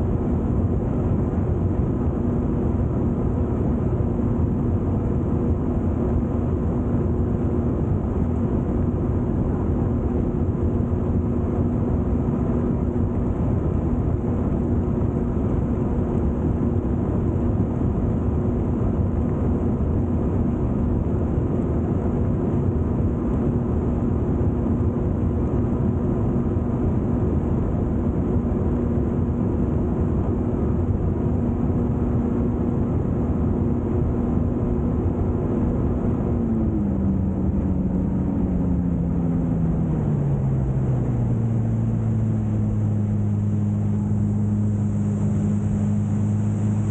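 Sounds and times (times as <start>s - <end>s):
jet ski engine drone: 0.0s - 46.9s.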